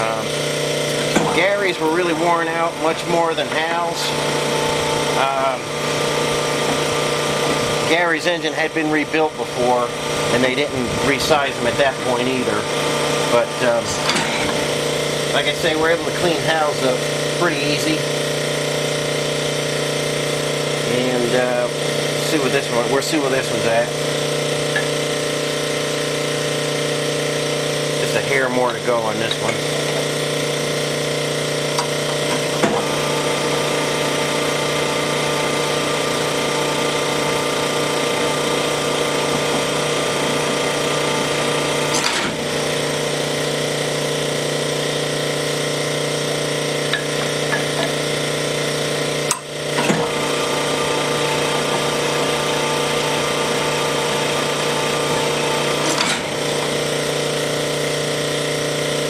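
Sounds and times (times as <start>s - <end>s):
honing machine running: 0.0s - 59.0s.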